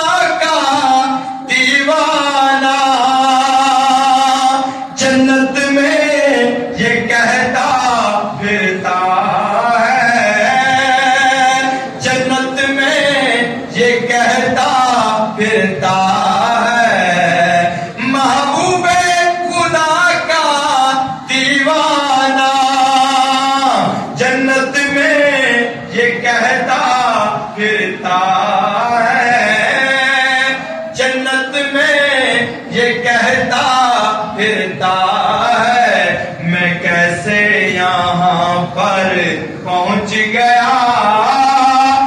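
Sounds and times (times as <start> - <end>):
man singing into a microphone: 0.0 - 42.0.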